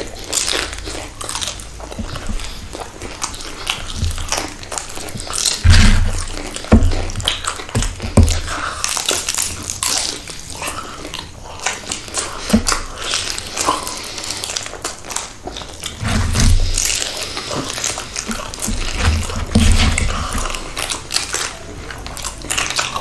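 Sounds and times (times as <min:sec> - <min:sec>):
person chewing with crunches: 0:00.0 - 0:23.0.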